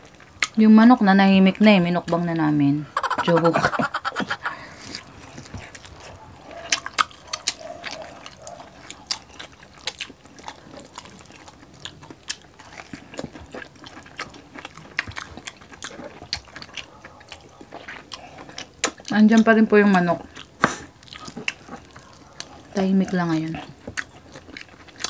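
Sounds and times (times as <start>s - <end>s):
quiet chewing: 0.0s - 0.6s, 1.7s - 25.0s
crunching crispy skin: 3.8s - 25.0s.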